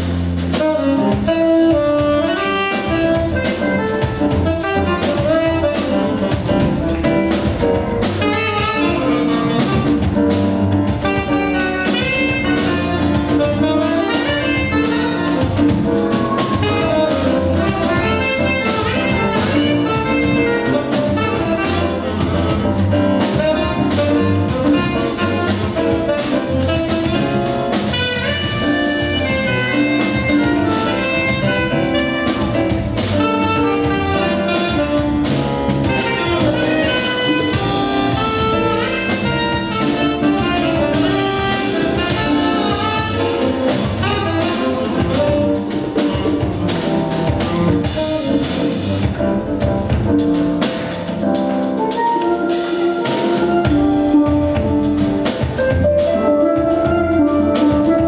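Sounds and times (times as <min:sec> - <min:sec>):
conga percussion: 0:00.0 - 0:58.0
drum kit: 0:00.0 - 0:58.0
saxophone lead: 0:00.4 - 0:58.0.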